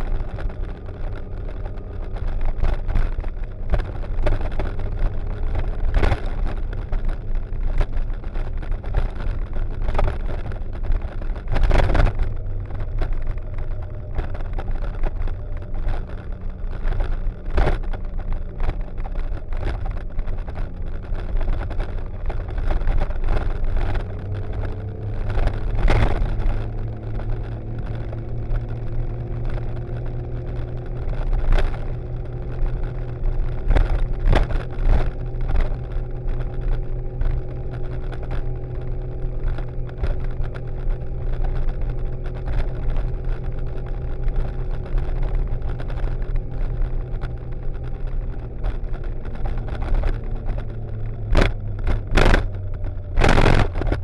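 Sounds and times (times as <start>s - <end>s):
motorcycle engine cruising: 0.0s - 54.0s
road and wind noise: 0.0s - 54.0s.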